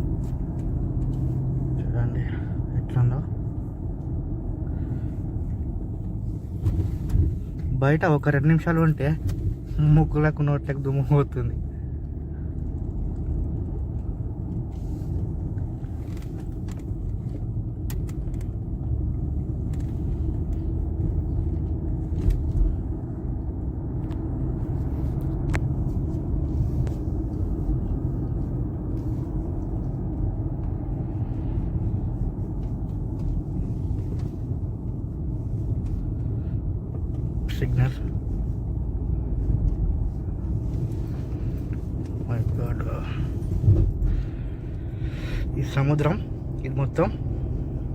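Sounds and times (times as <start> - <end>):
car rumble inside cabin: 0.0 - 47.9.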